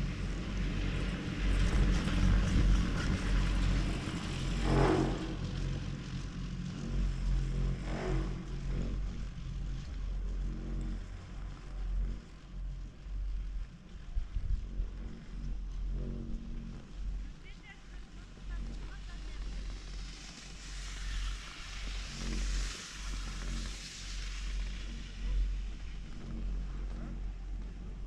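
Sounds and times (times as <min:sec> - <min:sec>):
chairlift low rumble: 0:00.0 - 0:28.0
wind on microphone: 0:00.0 - 0:28.0.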